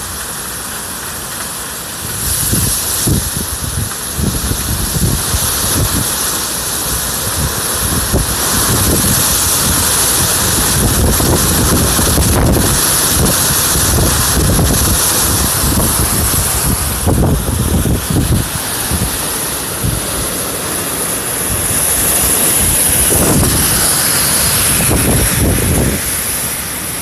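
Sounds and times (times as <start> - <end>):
strong wind rushing: 2.0 - 27.0
wind buffeting microphone: 2.0 - 27.0.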